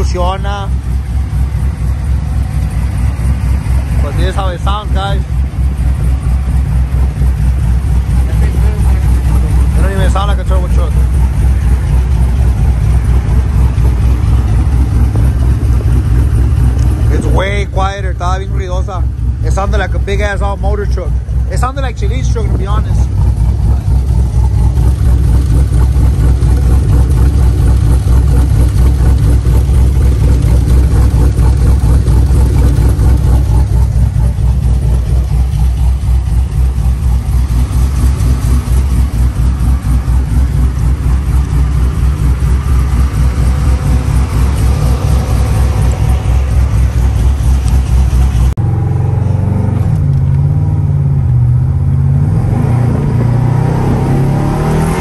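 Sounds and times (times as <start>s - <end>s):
truck exhaust idling rumble: 0.0s - 49.2s
engine drone inside cab: 0.0s - 55.0s.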